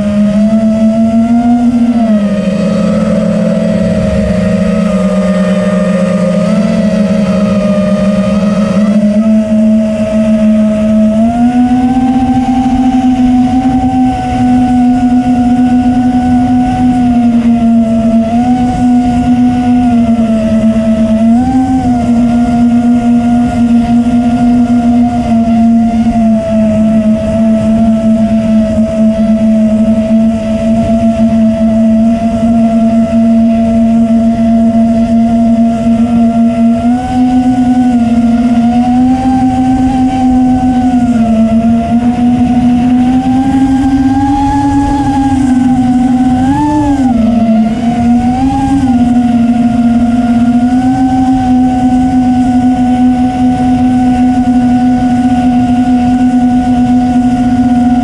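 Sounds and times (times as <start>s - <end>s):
drone motors whining: 0.0s - 58.0s
wind on microphone: 0.0s - 58.0s.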